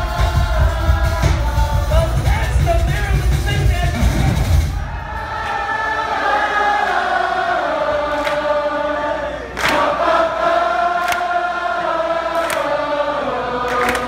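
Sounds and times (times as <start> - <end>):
crowd singing held notes: 0.0 - 2.3, 4.8 - 14.0.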